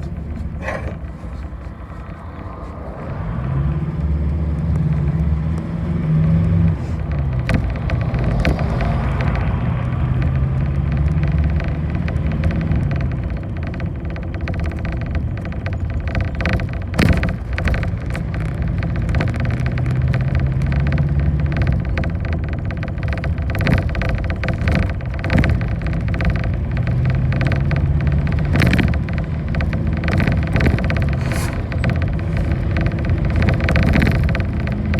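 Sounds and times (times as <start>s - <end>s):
bus engine running: 0.0s - 34.9s
knocks and rattling from bus body: 0.0s - 34.9s.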